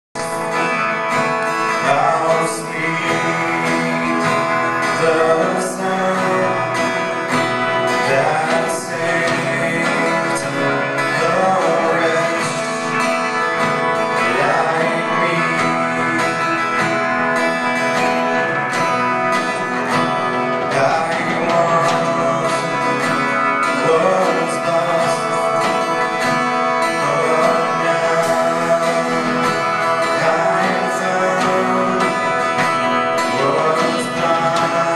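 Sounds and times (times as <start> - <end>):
acoustic guitar strumming: 0.2 - 34.9
person singing: 0.2 - 34.9.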